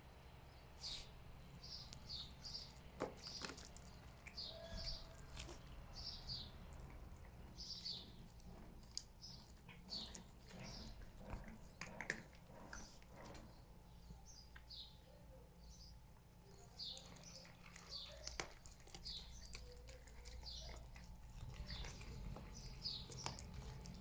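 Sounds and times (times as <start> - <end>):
small birds chirping: 0.4 - 24.0.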